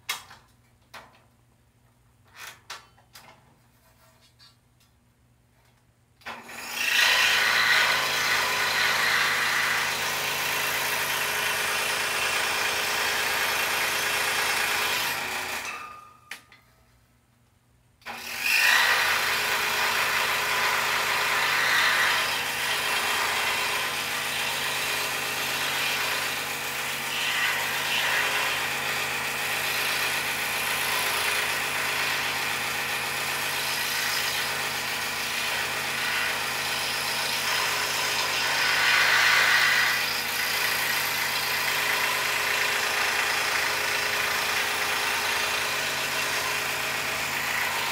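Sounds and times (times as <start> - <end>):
scroll saw cutting wood: 6.2 - 16.1, 18.1 - 47.9.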